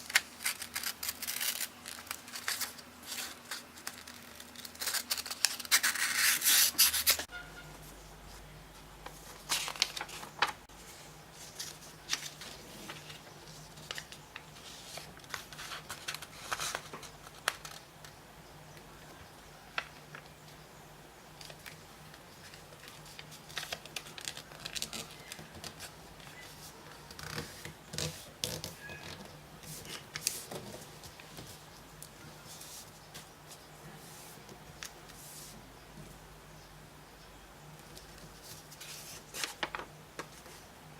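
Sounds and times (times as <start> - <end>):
paper rustling and creasing: 0.0 - 7.3, 9.0 - 17.9, 21.4 - 35.6, 37.8 - 40.6.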